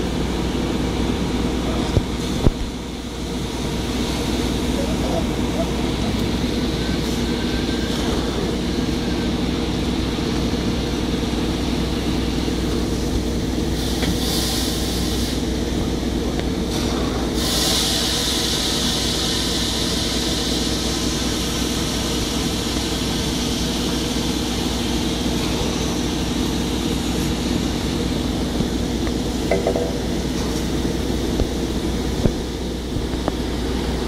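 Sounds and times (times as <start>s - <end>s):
fire truck engine and pump droning: 0.0s - 34.0s.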